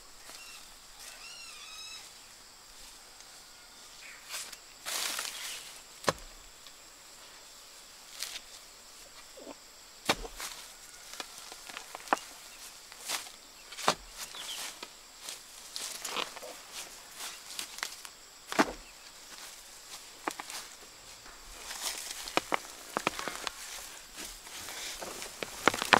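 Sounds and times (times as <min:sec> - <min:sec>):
leaves and grass rustling: 0:00.0 - 0:25.9.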